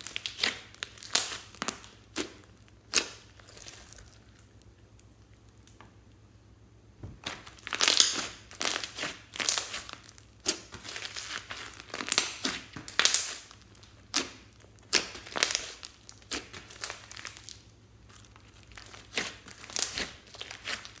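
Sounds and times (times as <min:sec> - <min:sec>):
slime crackling and squishing: 0:00.0 - 0:06.2, 0:07.1 - 0:21.0.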